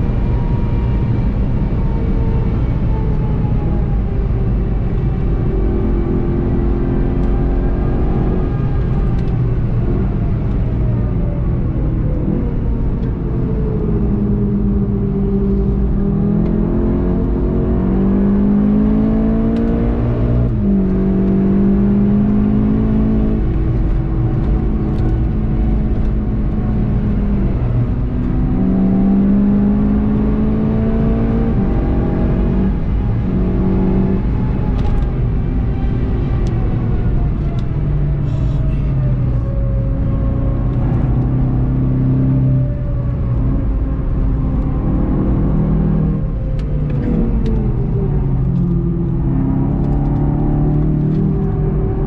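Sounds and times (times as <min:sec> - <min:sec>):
car engine accelerating through gears: 0:00.0 - 0:52.0.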